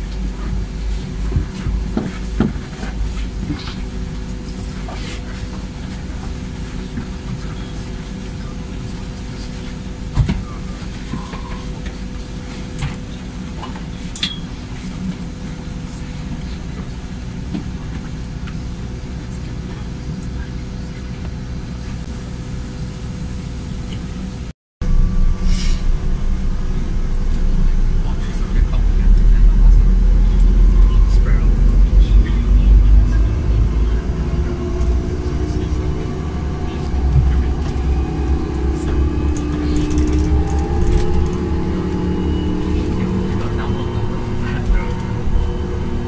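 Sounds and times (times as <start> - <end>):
bus rumbling: 0.0 - 46.0
faint constant hum: 0.0 - 46.0
low vehicle rumble: 0.0 - 46.0.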